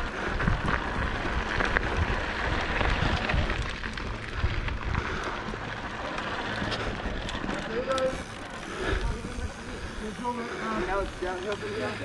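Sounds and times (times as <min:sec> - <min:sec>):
wind rumbling on microphone: 0:00.0 - 0:10.2
bike tyres on dirt trail: 0:00.0 - 0:12.0
small clicks and rattles: 0:00.4 - 0:12.0.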